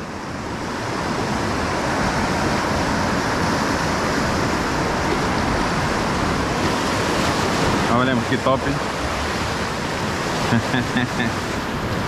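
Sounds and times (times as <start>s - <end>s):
sea surf over rocks: 0.0s - 12.0s.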